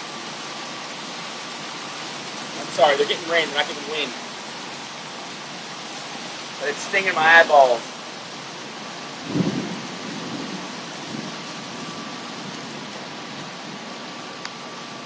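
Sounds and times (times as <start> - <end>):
heavy rain on pool water: 0.0 - 15.0.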